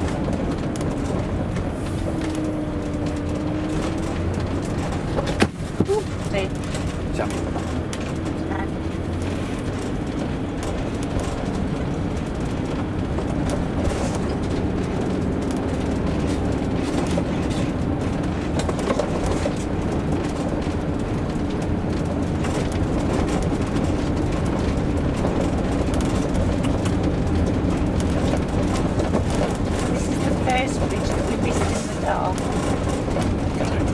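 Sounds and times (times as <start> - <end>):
light clicks and rattles: 0.0 - 33.9
vehicle engine and road drone: 0.0 - 33.9.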